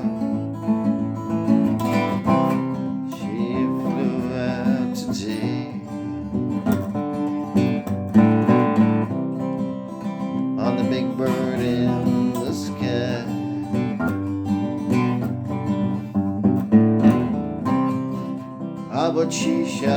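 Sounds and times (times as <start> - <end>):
strummed acoustic guitar: 0.0 - 19.9.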